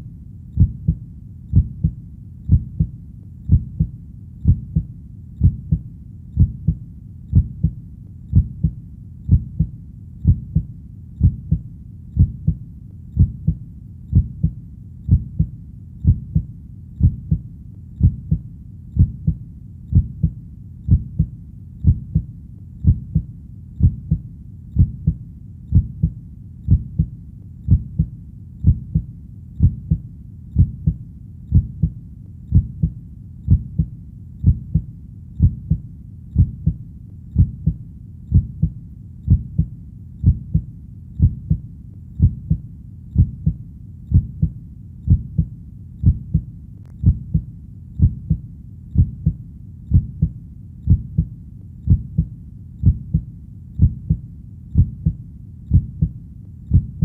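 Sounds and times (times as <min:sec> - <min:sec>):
heartbeat: 0:00.0 - 0:57.0
low steady hum: 0:00.0 - 0:57.0.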